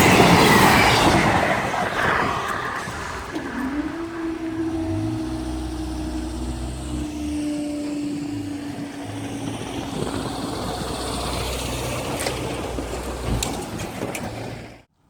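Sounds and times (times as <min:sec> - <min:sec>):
train engine drone: 0:00.0 - 0:14.9
train rolling rush: 0:00.0 - 0:14.9
wheels clicking over rail joints: 0:00.0 - 0:15.0.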